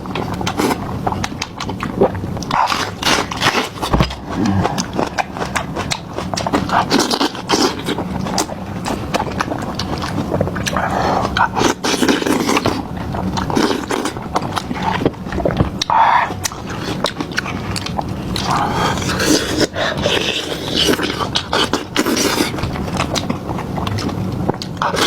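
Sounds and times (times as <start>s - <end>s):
crunchy biting and chewing: 0.0s - 25.0s
wet mouth noises: 0.3s - 25.0s.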